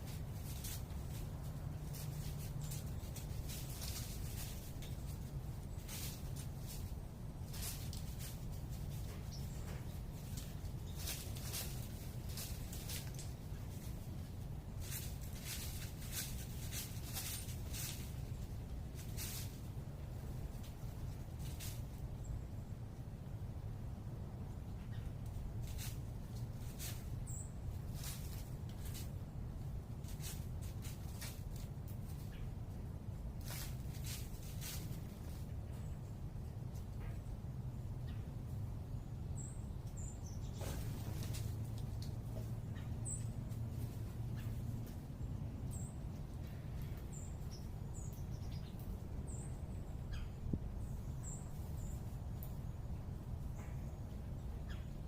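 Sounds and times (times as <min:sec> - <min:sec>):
distant urban rumble: 0:00.0 - 0:55.0.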